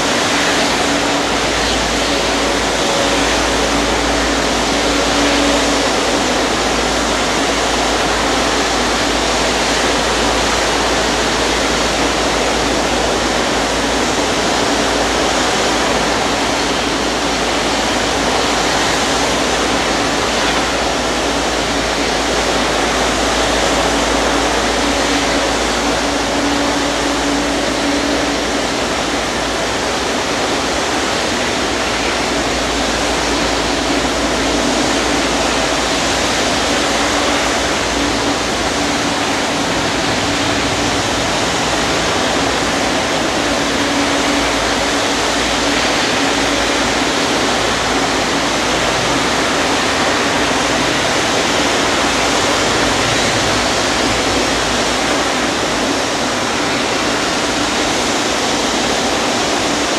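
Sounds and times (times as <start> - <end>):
faint constant hum: 0.0 - 59.9
jet turbine hiss and rumble: 0.0 - 59.9.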